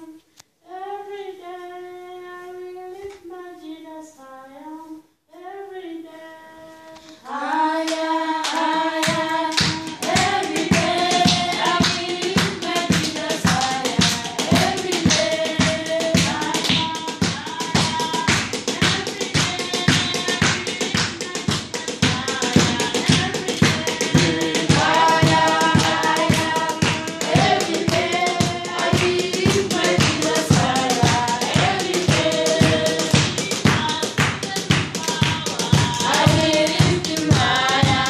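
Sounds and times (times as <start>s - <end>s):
person singing worship song: 0.0s - 38.0s
group singing together: 5.7s - 38.0s
rhythmic hand clapping: 7.5s - 38.0s.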